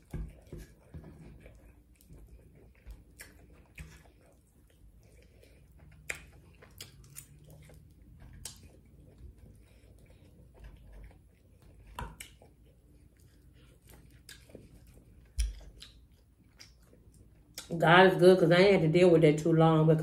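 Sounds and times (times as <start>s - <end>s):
faint chewing with smacks: 0.0s - 17.8s.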